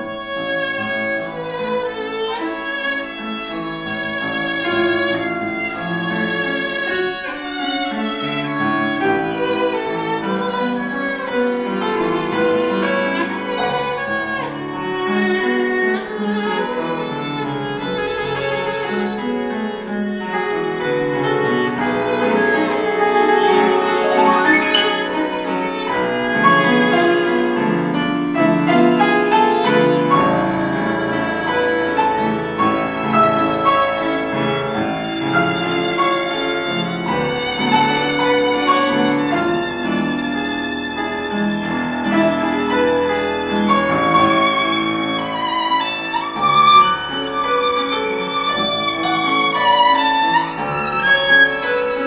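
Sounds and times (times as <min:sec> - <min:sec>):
violin melody with vibrato: 0:00.0 - 0:27.7, 0:28.8 - 0:52.0
piano accompaniment: 0:00.0 - 0:52.0.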